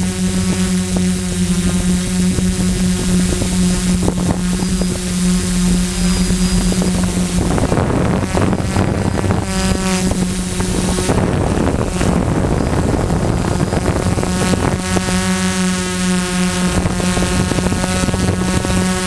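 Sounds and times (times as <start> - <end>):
drone motors buzzing: 0.0 - 19.0
rushing propeller wash: 0.0 - 19.0.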